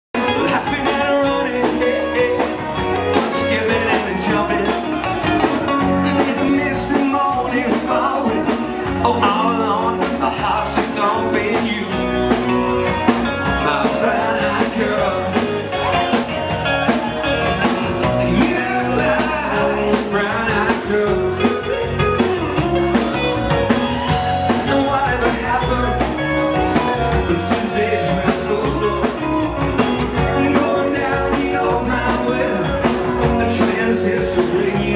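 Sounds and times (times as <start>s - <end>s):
rock and roll band playing: 0.1s - 34.9s.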